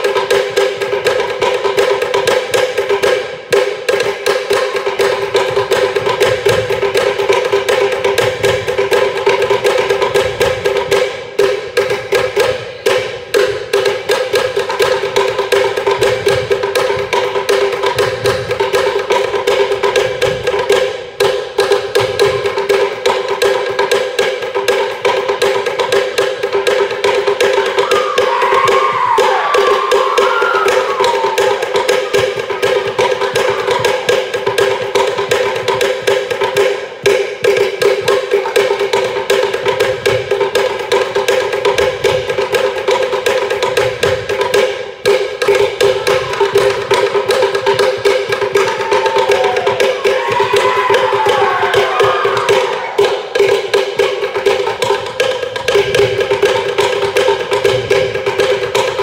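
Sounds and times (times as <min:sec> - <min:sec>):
rapid wooden drum strikes: 0:00.0 - 0:59.0.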